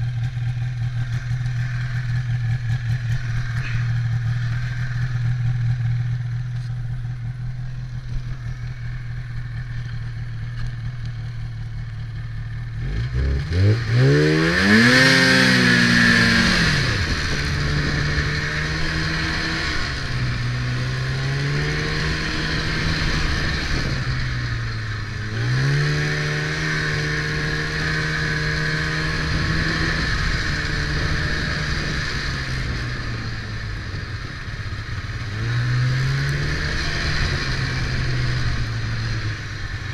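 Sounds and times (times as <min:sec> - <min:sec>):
snowmobile engine revving: 0:00.0 - 0:06.4, 0:12.2 - 0:39.9.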